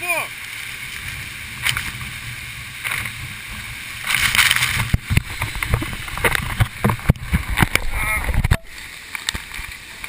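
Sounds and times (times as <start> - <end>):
water rushing: 0.0 - 10.0
water splashing: 0.0 - 10.0.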